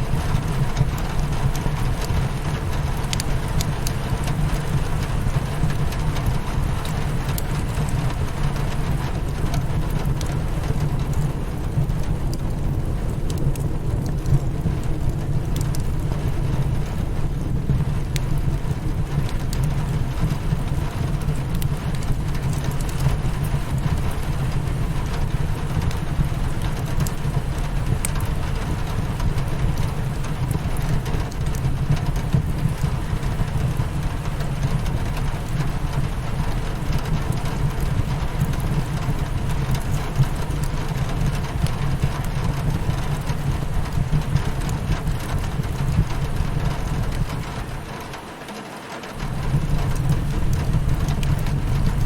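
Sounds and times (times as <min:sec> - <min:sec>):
wood fire crackling: 0:00.0 - 0:48.5, 0:49.1 - 0:52.0
rain beating against a window: 0:00.0 - 0:52.0.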